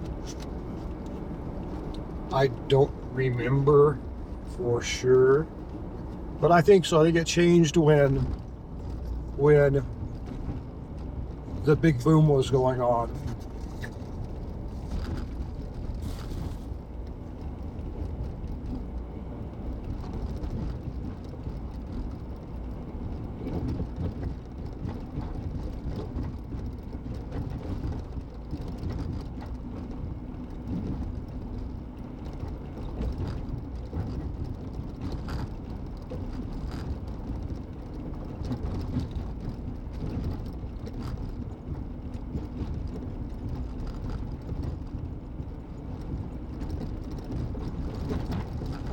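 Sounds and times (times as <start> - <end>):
car road and engine noise: 0.0 - 48.9.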